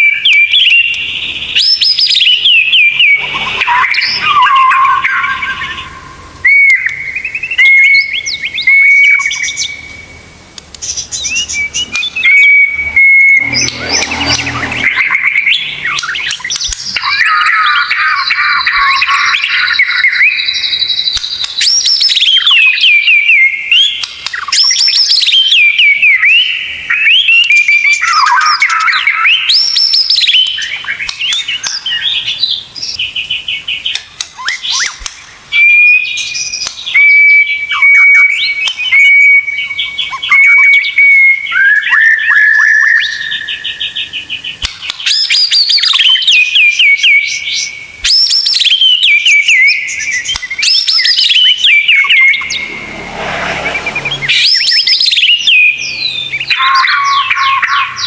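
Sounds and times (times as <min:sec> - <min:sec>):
recorded songbird song: 0:00.0 - 0:58.0.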